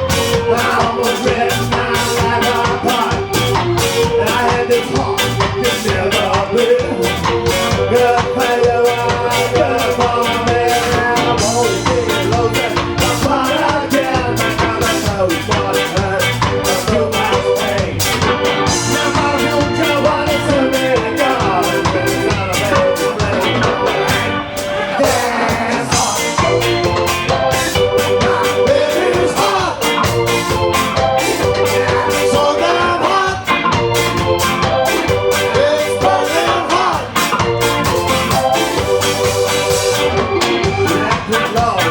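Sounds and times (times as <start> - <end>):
live ska band playing: 0.0 - 41.9.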